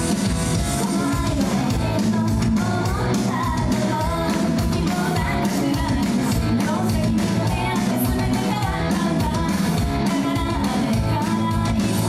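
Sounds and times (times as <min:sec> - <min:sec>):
steady drum beat: 0:00.0 - 0:10.0
electric guitar: 0:00.0 - 0:12.0.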